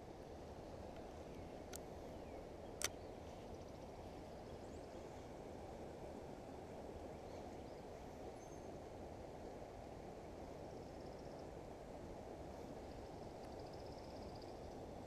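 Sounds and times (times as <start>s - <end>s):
low rushing outdoor noise: 0.0s - 15.0s.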